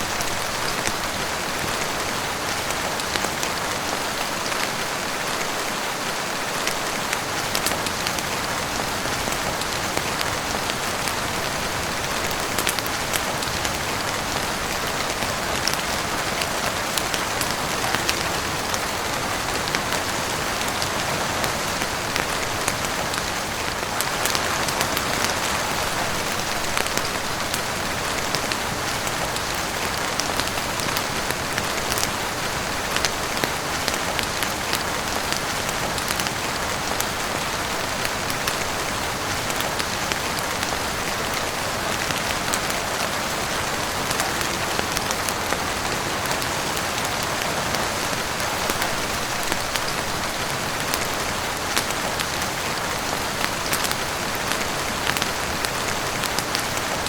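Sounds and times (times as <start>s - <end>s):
heavy rain on a roof and windows: 0.0s - 57.0s.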